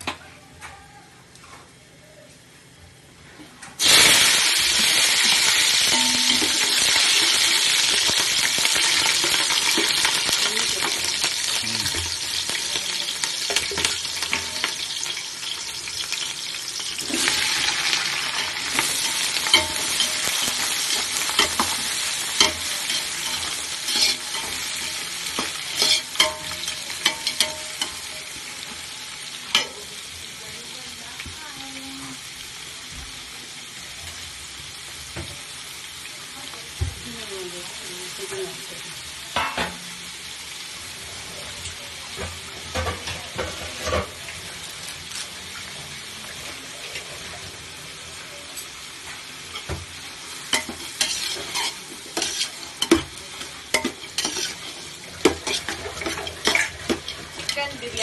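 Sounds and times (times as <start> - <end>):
food sizzling in hot oil: 3.8 - 58.0.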